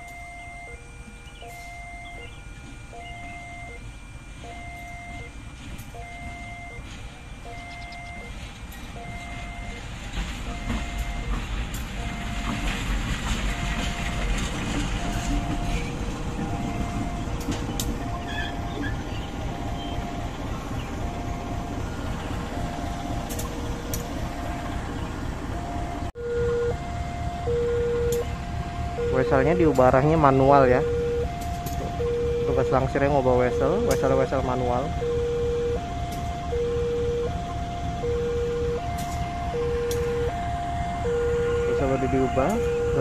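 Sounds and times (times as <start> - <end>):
level crossing alarm beeping: 0.0 - 43.0
locomotive engine rumble: 0.0 - 43.0.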